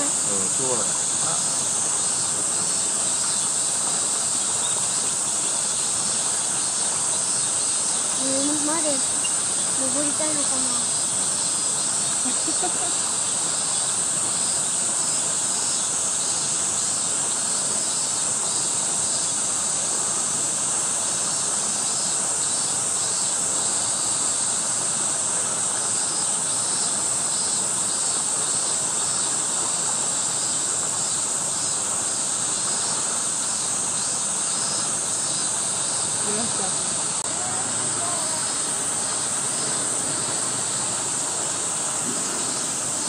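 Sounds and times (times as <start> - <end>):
insects droning: 0.0 - 43.0
pulsing insect chirp: 0.0 - 43.0.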